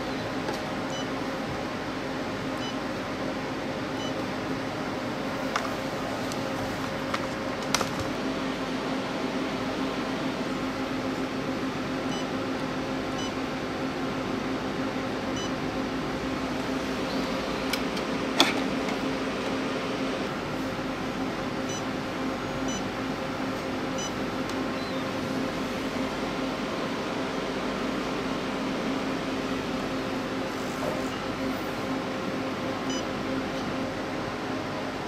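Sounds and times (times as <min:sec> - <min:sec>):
machine mechanical hum: 0:00.0 - 0:35.0.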